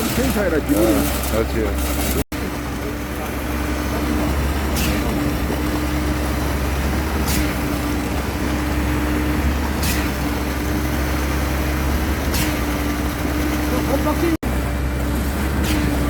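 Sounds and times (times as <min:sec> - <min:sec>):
large vehicle engine humming: 0:00.0 - 0:16.0.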